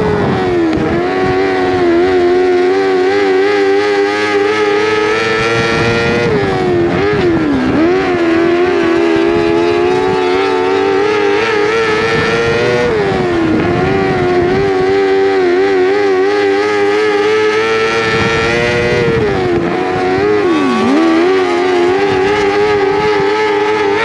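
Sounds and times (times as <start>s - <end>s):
engine revving high: 0.0s - 24.0s.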